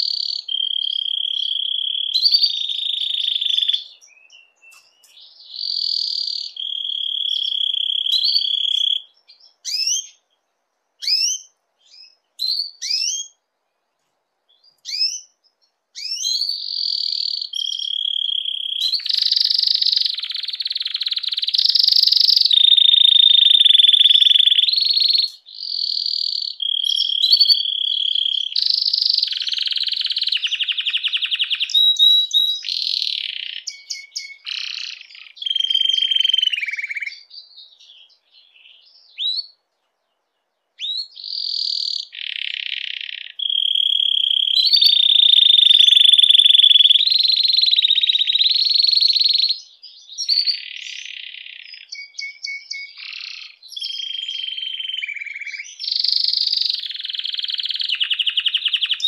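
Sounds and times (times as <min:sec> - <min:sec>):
canary singing trills: 0:00.0 - 0:10.4, 0:11.0 - 0:13.4, 0:14.5 - 0:59.0.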